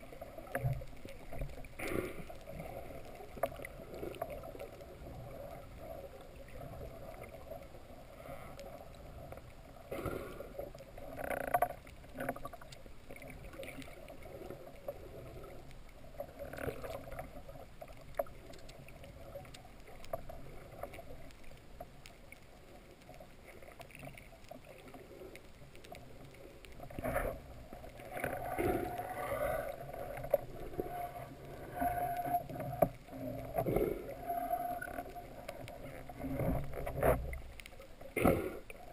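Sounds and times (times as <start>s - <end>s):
muffled underwater ambience: 0.0s - 38.9s.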